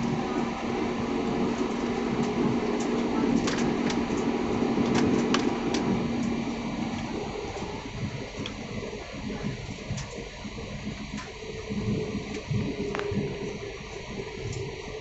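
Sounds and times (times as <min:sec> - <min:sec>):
jet engine and air conditioning drone: 0:00.0 - 0:15.0
low hum: 0:00.0 - 0:15.0.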